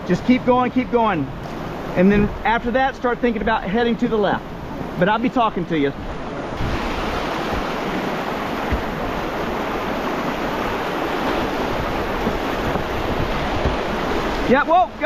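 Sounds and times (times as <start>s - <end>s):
river rapid rushing: 0.0s - 15.0s.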